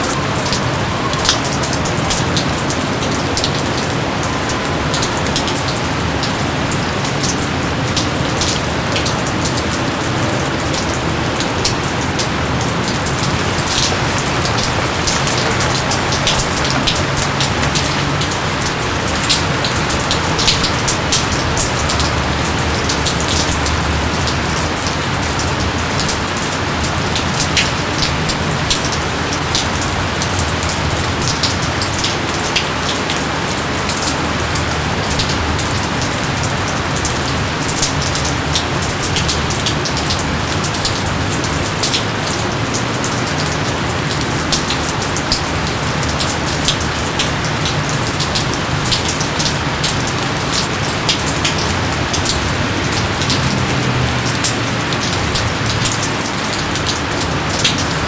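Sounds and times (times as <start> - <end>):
heavy rain with drop impacts: 0.0 - 58.0.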